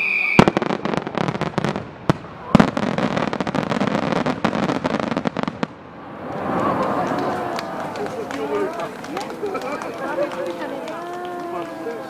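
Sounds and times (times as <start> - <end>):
fireworks crackling: 0.0 - 12.0
fireworks booms: 0.4 - 10.6.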